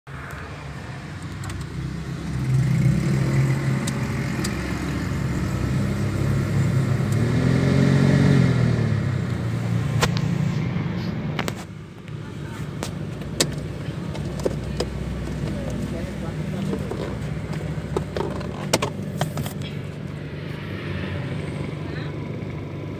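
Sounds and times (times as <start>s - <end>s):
car engine running: 0.6s - 22.9s.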